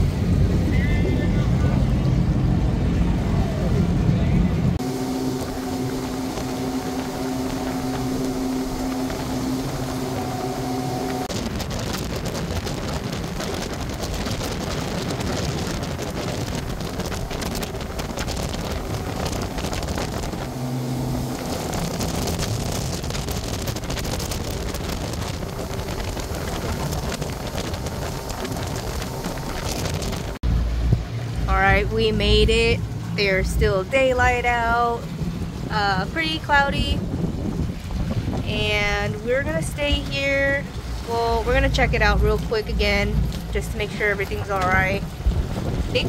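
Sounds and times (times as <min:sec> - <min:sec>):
motorboat engine humming: 0:00.0 - 0:46.0
rush of wind and water: 0:00.0 - 0:46.0
wind buffeting microphone: 0:00.0 - 0:46.0.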